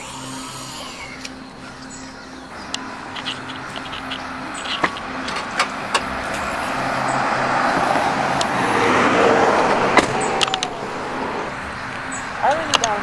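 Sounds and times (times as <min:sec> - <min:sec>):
car noise: 0:00.0 - 0:13.0.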